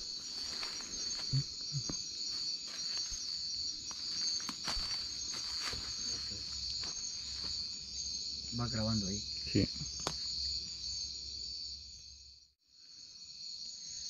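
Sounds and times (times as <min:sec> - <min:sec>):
night insects chorus: 0:00.0 - 0:14.0.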